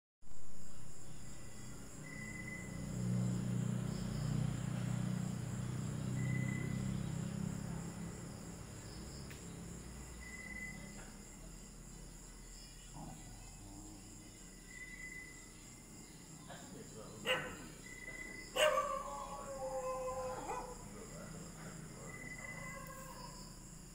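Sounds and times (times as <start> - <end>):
crickets chirping: 0.2 - 23.9.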